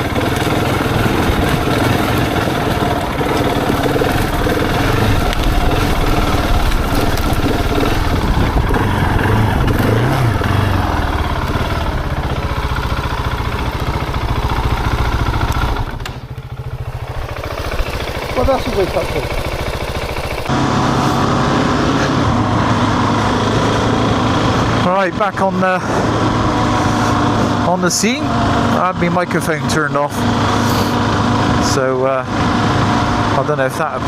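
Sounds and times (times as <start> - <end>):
motorcycle engine riding: 0.0 - 34.0.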